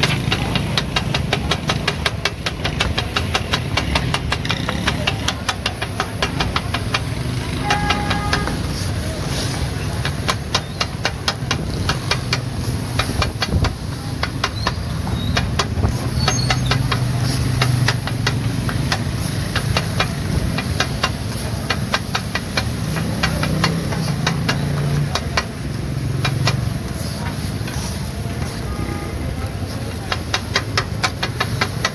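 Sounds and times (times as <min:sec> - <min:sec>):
metal spatulas clacking on griddle: 0:00.0 - 0:28.7, 0:29.4 - 0:31.9.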